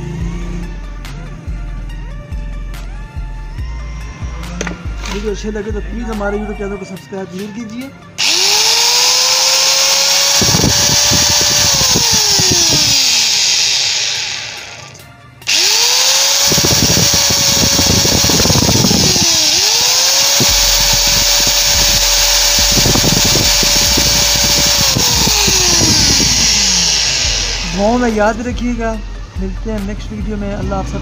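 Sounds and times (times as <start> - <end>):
angle grinder whining: 3.5 - 29.7.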